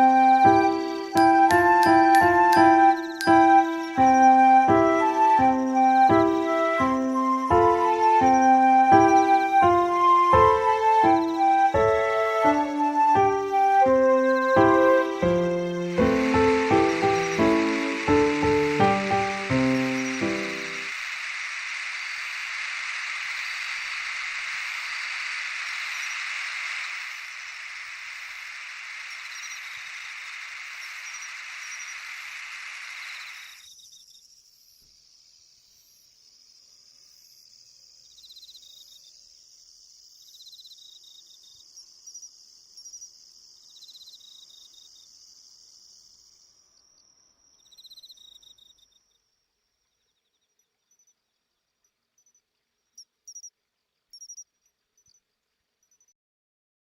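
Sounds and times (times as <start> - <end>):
crickets chirping and trilling: 0.0 - 56.1.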